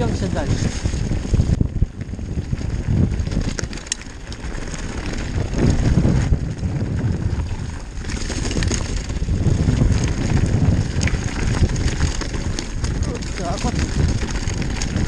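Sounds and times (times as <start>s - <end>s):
bike rattling over stones: 0.0s - 15.0s
wind rumble on microphone: 0.0s - 15.0s.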